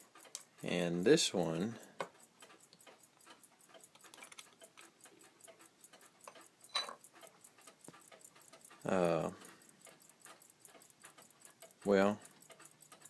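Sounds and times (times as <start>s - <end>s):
pocket watch ticking fast: 0.0s - 13.0s.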